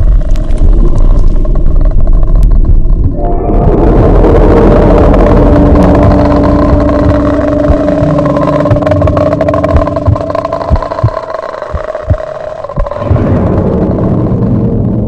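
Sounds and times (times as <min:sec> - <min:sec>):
low rumbling drone: 0:00.0 - 0:15.0
low thumps: 0:00.0 - 0:15.0.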